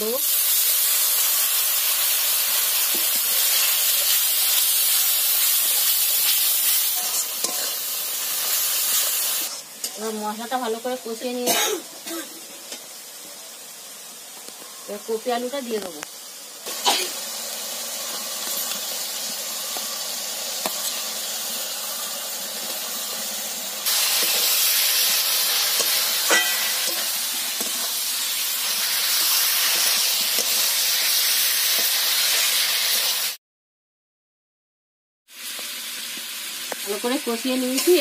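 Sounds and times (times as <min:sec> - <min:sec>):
vegetables sizzling in oil: 0:00.0 - 0:33.4, 0:35.3 - 0:38.0.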